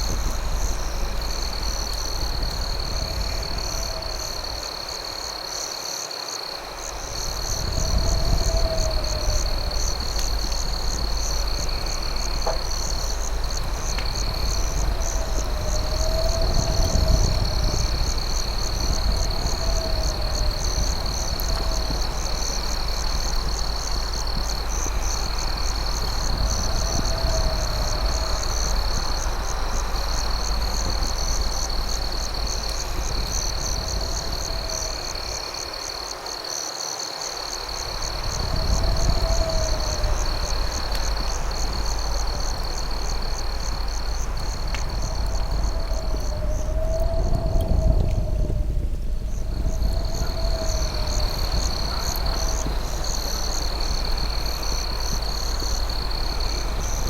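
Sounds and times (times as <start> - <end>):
low steady rumble: 0.0 - 5.3, 6.7 - 35.8, 37.6 - 57.0
campfire crackles: 0.0 - 57.0
crickets trilling: 0.0 - 57.0.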